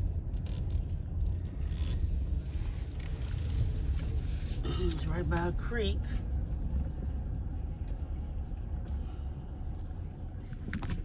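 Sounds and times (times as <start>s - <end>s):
car interior engine and road drone: 0.0s - 11.0s.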